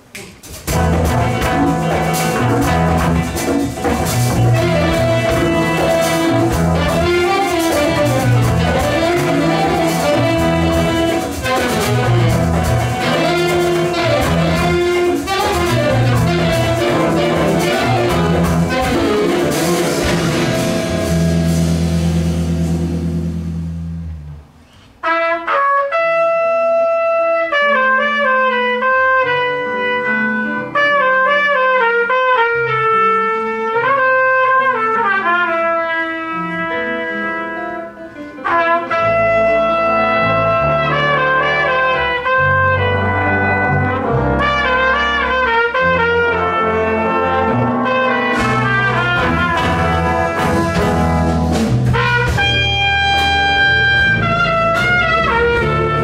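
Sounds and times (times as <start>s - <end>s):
jazz big band playing: 0.3s - 56.0s.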